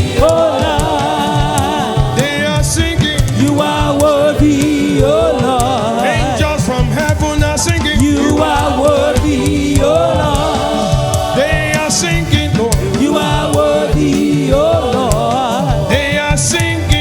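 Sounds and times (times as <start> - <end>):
choir singing with instruments: 0.0 - 17.0.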